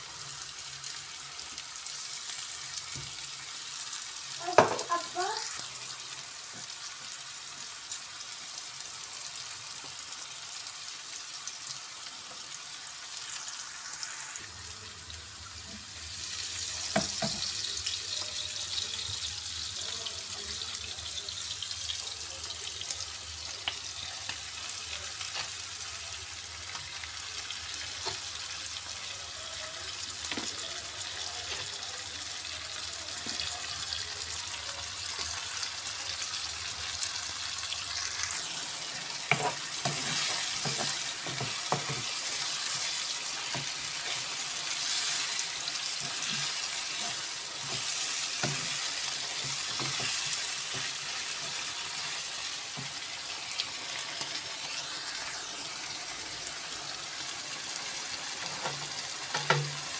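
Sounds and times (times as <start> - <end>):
peppers sizzling in a frying pan: 0.0 - 59.9.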